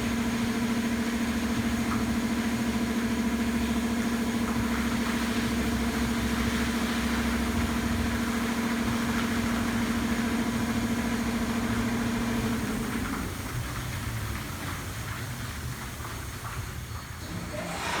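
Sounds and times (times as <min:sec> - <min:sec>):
car wash motor hum: 0:00.0 - 0:18.0.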